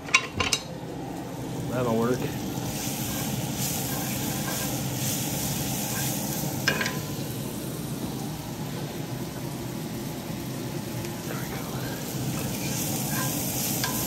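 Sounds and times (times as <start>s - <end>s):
onions sizzling in hot oil: 0.5s - 14.0s.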